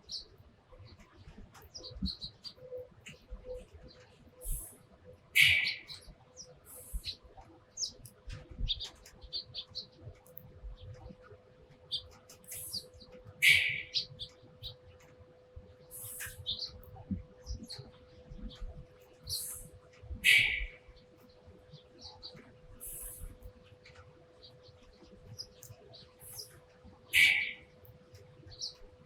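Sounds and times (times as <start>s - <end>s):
sparrows chirping: 0.0s - 29.0s.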